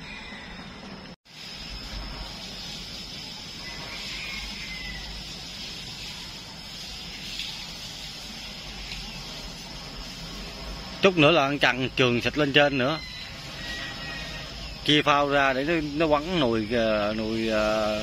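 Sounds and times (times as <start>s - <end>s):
even hiss: 0.3s - 18.0s.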